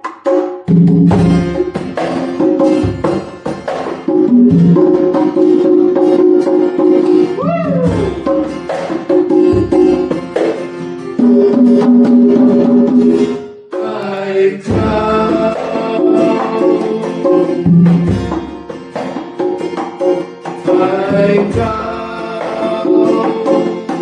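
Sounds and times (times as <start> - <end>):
instrumental music: 0.0 - 24.0.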